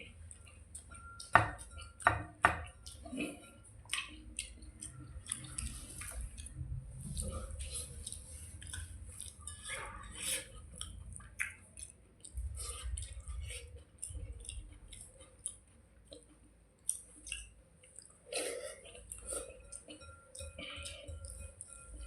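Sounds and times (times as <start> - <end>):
wet chewing and mouth sounds: 0.0 - 22.0.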